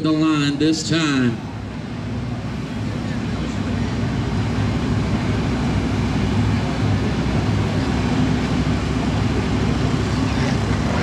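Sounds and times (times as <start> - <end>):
race car engines rumbling: 0.0 - 11.0.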